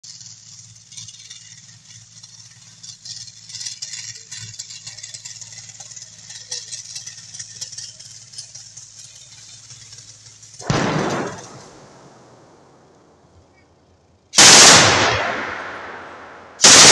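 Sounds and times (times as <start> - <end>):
hiss and crackle: 0.0 - 16.9.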